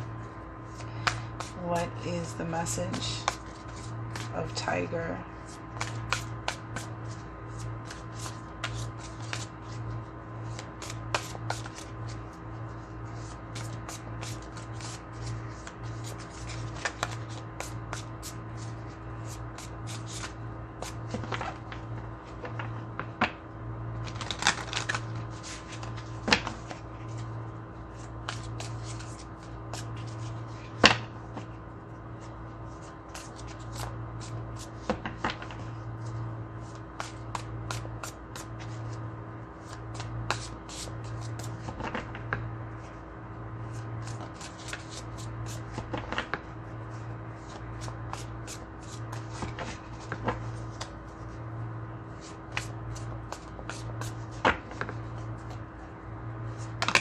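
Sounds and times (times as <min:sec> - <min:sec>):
faint low hum: 0:00.0 - 0:57.0
cards shuffled by hand: 0:00.7 - 0:01.9, 0:02.9 - 0:04.4, 0:05.4 - 0:23.1, 0:24.0 - 0:27.3, 0:27.9 - 0:31.0, 0:32.7 - 0:39.0, 0:39.6 - 0:42.2, 0:43.7 - 0:51.4, 0:52.2 - 0:55.6.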